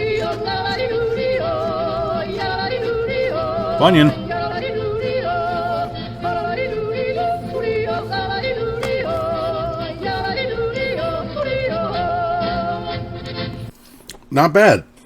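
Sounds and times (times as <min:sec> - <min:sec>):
person yodeling: 0:00.0 - 0:13.3
low musical accompaniment: 0:00.0 - 0:13.7.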